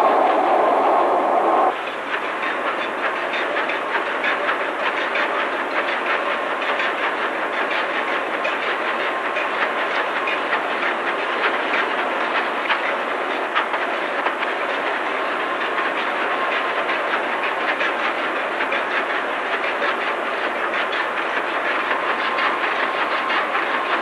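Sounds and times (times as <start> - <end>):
large diesel engine clattering: 0.0 - 24.0.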